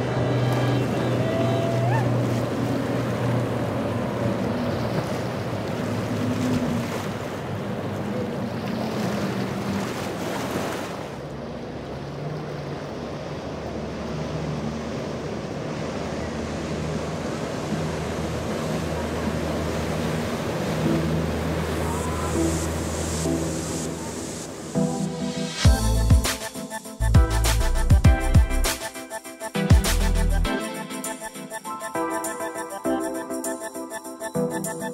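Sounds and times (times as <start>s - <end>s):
boat engine drone: 0.0s - 34.9s.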